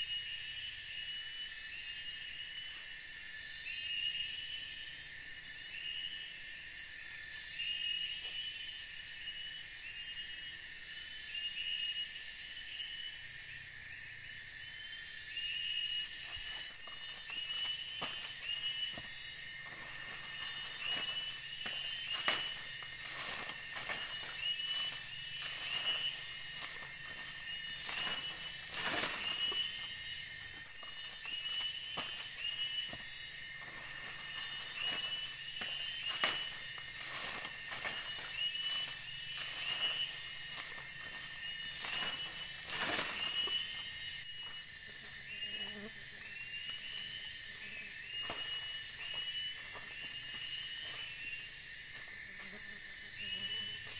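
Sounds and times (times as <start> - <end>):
high-pitched insect hiss: 0.0 - 53.9.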